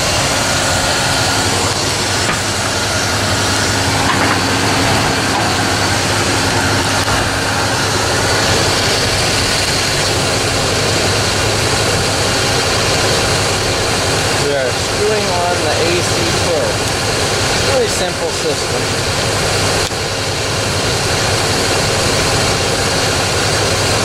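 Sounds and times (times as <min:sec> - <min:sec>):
compressor whine: 0:00.0 - 0:24.0
pickup engine idling: 0:00.0 - 0:24.0.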